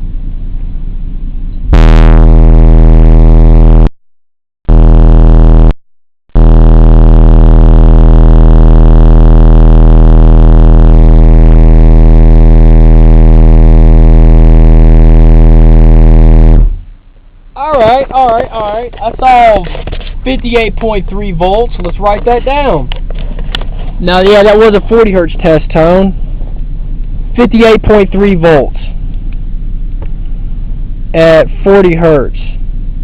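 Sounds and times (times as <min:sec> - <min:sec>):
subwoofer low test tone drone: 0:00.0 - 0:03.9, 0:04.7 - 0:33.0.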